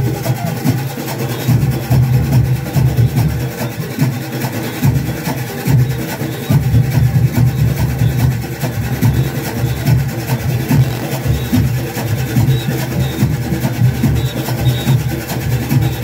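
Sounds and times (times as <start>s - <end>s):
drums beating low rhythm: 0.0s - 16.0s.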